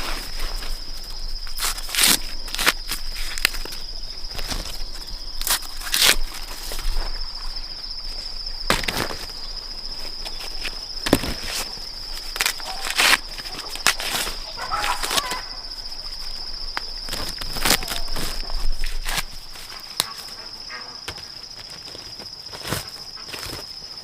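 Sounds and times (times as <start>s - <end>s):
dry rustles and crunches: 0.0s - 20.5s, 21.1s - 24.0s
insects chirping: 0.0s - 24.0s.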